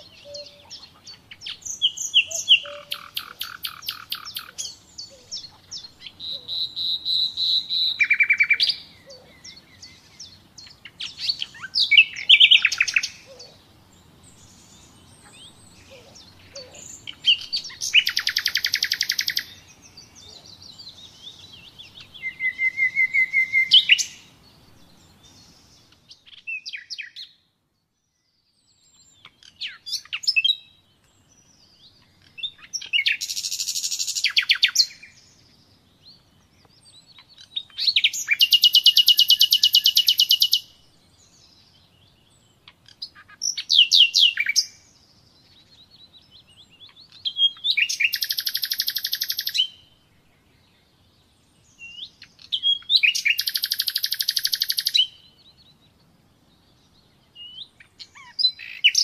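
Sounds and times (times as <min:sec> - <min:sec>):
nightingale singing: 0:00.0 - 0:59.0.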